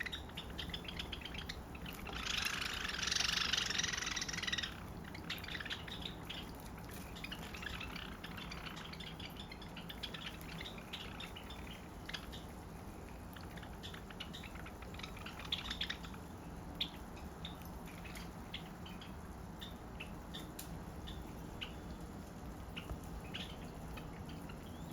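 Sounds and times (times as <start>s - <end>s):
sparrows chipping: 0.0s - 24.9s.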